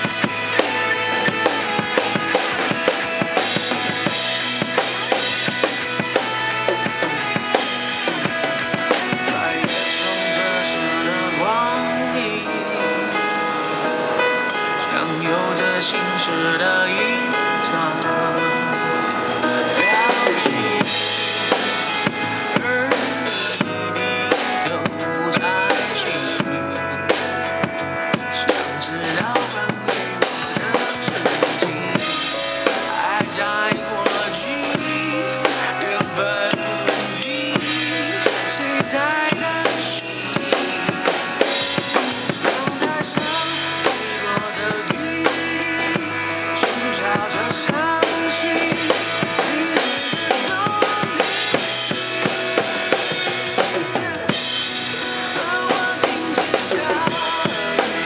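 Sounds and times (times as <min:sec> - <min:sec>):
drum kit beat: 0:00.0 - 0:58.0
pop ballad music: 0:00.0 - 0:58.0.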